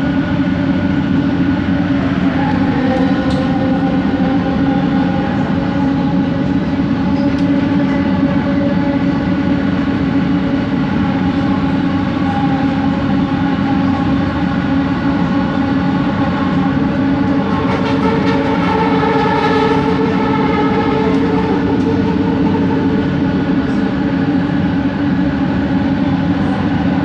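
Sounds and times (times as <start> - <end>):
rumble of moving train car: 0.0 - 27.0
train motor whine: 0.0 - 27.0.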